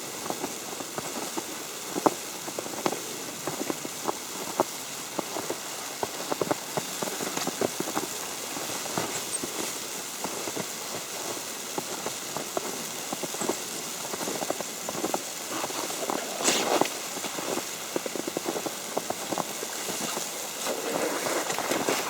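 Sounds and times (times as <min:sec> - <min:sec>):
snow pattering on an umbrella: 0:00.0 - 0:22.0.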